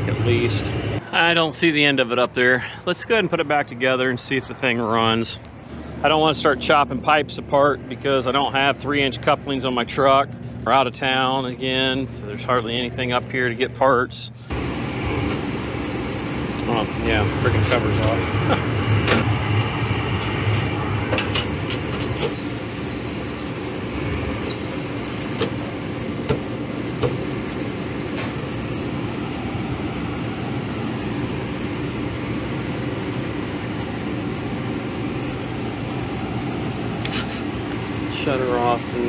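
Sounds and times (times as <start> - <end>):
gas furnace burners rushing: 0.0 - 39.0.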